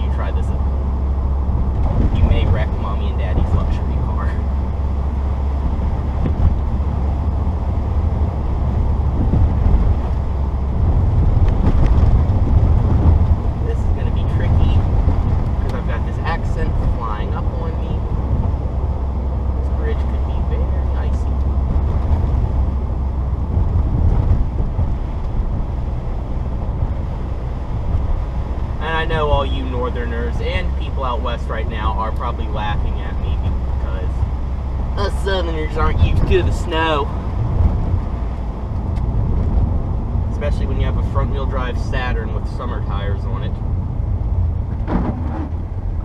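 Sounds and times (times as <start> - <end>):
car engine drone inside cabin: 0.0 - 46.0
road noise: 0.0 - 46.0.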